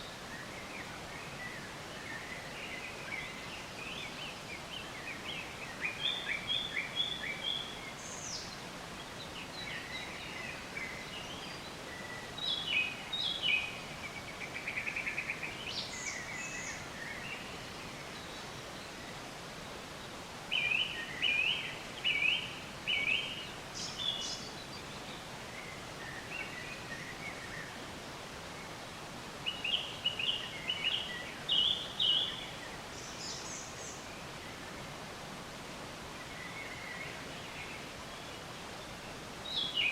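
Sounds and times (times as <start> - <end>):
songbirds chirping and singing: 0.0 - 28.8, 29.4 - 34.8
steady background hiss: 0.0 - 39.9.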